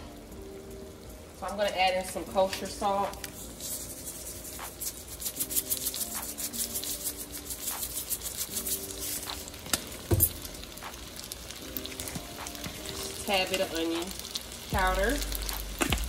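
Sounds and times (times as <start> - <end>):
noodles crackling in frying pan: 0.0 - 16.0.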